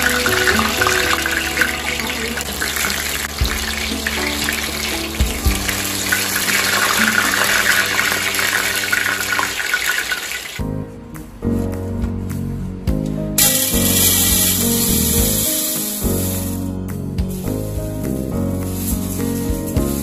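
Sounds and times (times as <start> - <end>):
leaves sizzling in hot oil: 0.0 - 10.6, 13.4 - 16.7, 17.4 - 20.0
background music: 0.0 - 20.0.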